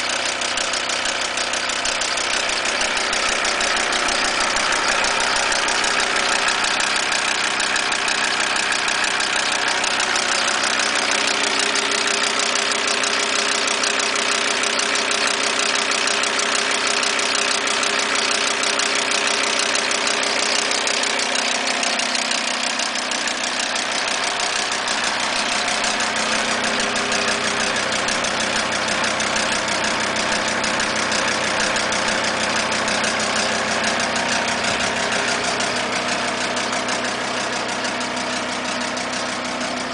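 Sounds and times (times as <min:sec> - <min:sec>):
diesel engine running: 0:00.0 - 0:39.9
rapid valve train ticking: 0:00.0 - 0:39.9.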